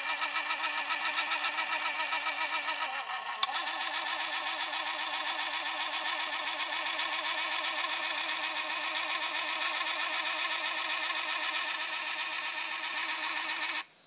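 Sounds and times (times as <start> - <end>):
small geared motor whining: 0.0 - 13.9.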